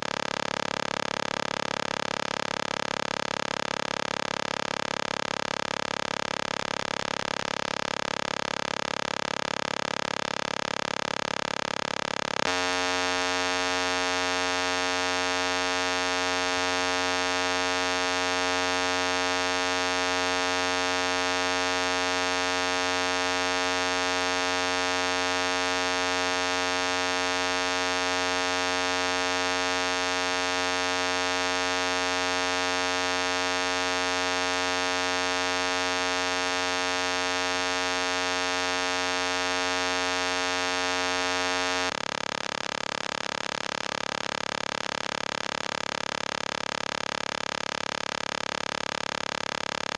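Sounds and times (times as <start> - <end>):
electronic buzzing tone: 0.0 - 49.9.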